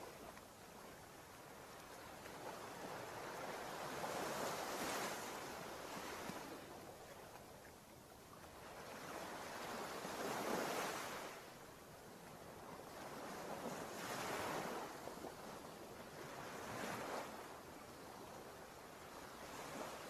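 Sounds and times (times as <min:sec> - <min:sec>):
ocean surf on sandy beach: 0:00.0 - 0:20.0.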